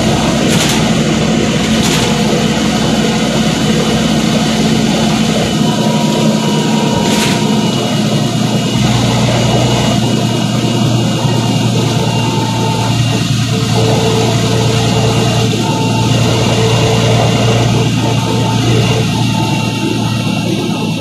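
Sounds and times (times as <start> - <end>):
bus engine hum: 0.0 - 21.0.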